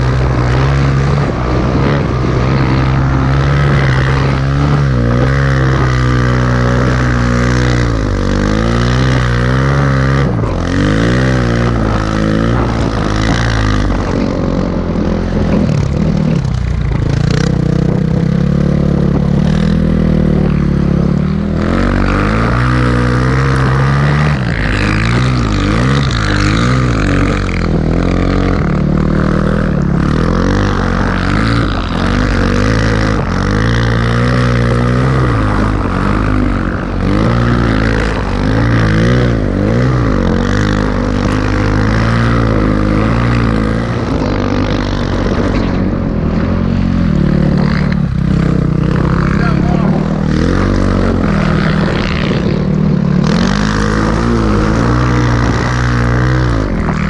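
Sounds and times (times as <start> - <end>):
dirt-bike engine revving: 0.0 - 57.0.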